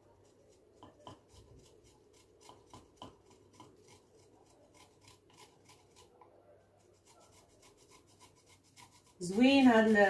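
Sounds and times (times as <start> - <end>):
grater rasping on stone: 0.0 - 6.2, 6.8 - 10.0.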